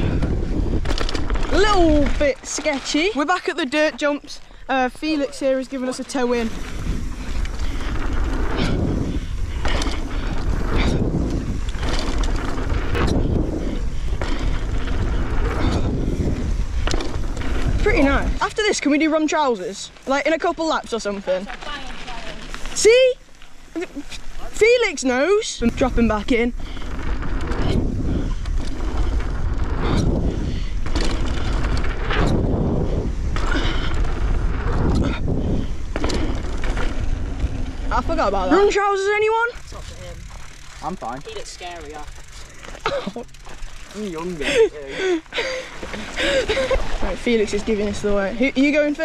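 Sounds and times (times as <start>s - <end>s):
wind buffeting microphone: 0.0s - 19.7s, 23.9s - 49.0s
bike tyres rolling on dirt: 0.0s - 49.0s.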